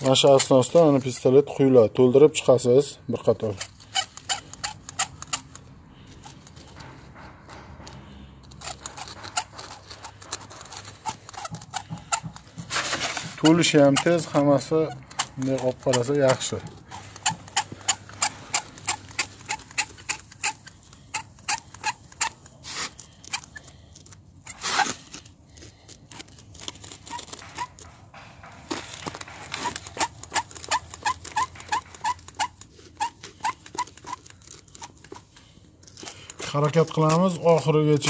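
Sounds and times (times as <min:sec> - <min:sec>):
rasping sound: 0:00.0 - 0:38.0
squeaking clicks: 0:00.0 - 0:38.0.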